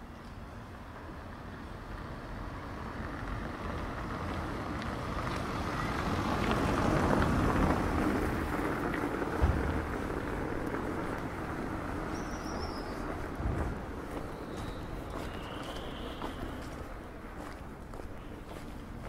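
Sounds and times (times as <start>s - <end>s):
vehicle approaching: 0.9s - 19.0s.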